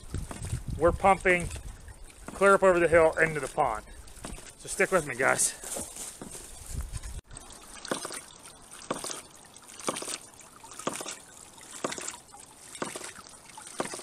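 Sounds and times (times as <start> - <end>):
water spilling: 0.0 - 5.7, 6.4 - 14.0
water trickling: 0.0 - 14.0.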